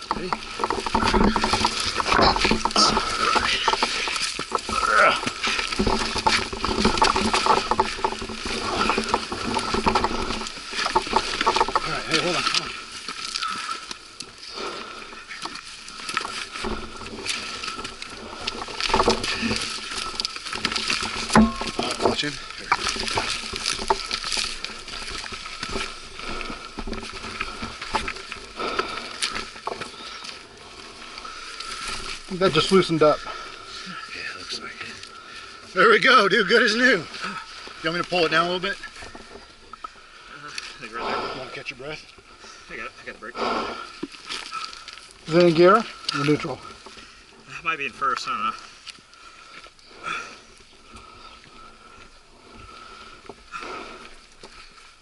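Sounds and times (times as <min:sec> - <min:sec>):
bike scraping and clattering on rocks: 0:00.0 - 0:55.0
footsteps on loose stones: 0:00.0 - 0:55.0.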